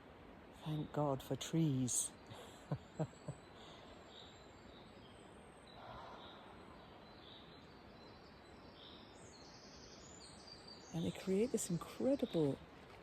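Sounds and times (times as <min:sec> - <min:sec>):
soft steady hiss: 0:00.0 - 0:13.0.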